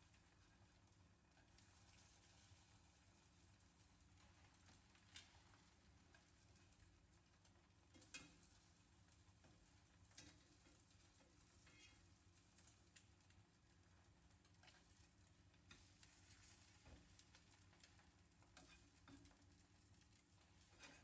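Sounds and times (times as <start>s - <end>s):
faint sizzling in a frying pan: 0.0s - 21.0s.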